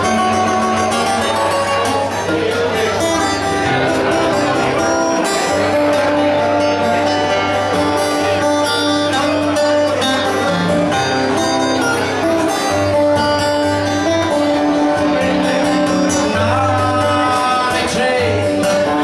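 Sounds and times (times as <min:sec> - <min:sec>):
acoustic guitar picking: 0:00.0 - 0:19.0.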